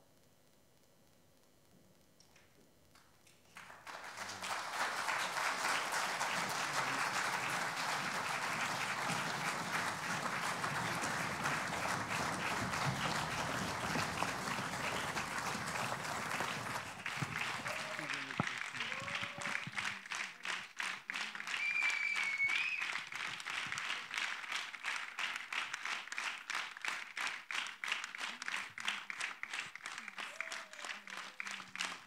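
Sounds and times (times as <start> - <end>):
audience applauding: 3.5 - 32.0.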